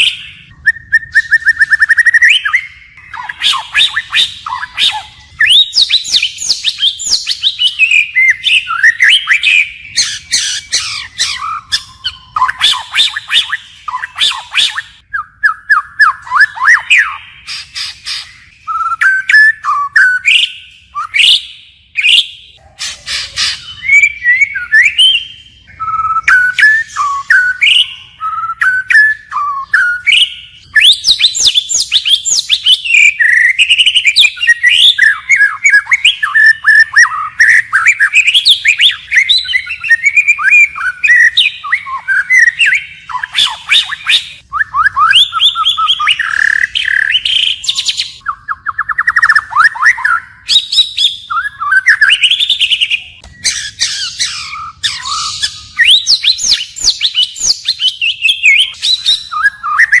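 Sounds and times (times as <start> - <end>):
bird singing whistled phrases: 0.0 - 60.0.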